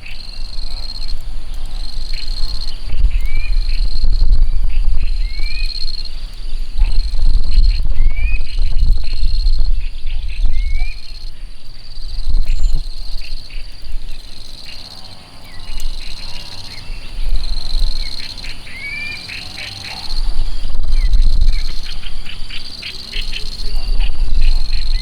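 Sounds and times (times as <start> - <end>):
birds chirping: 0.0 - 25.0
high insect trill: 0.0 - 25.0.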